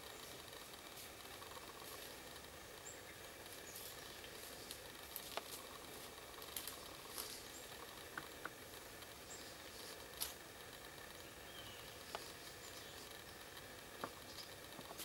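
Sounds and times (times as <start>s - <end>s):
dry leaves crackling under hooves: 0.0s - 15.0s
steady hiss: 0.0s - 15.0s.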